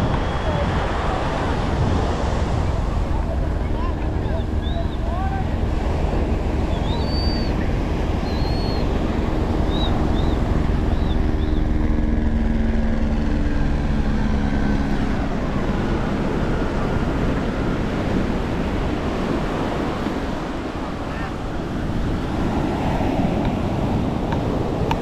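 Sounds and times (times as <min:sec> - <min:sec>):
surf washing on beach: 0:00.0 - 0:12.8, 0:13.4 - 0:25.0
wind buffeting microphone: 0:00.0 - 0:25.0.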